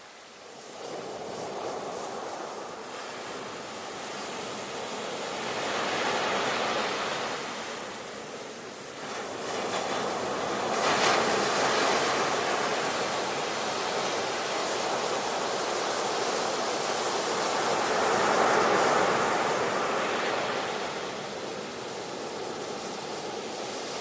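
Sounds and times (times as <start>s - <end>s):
ocean waves rushing: 0.0s - 24.0s.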